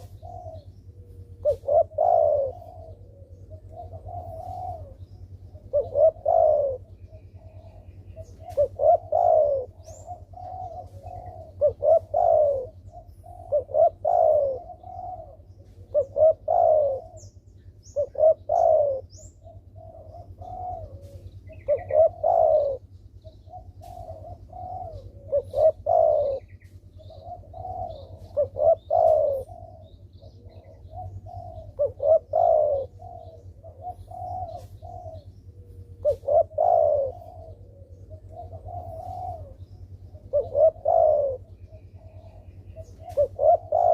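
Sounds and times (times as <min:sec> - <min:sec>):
dove cooing: 0:00.0 - 0:43.9
low steady hum: 0:00.0 - 0:43.9.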